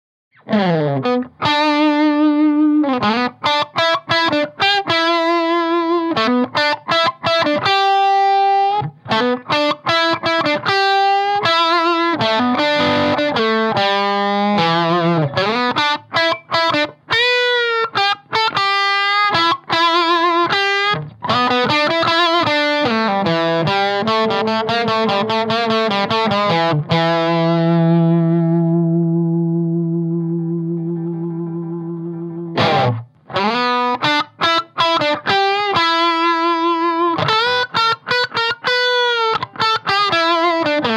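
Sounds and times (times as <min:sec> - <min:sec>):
overdriven electric guitar lead: 0:00.3 - 0:40.9.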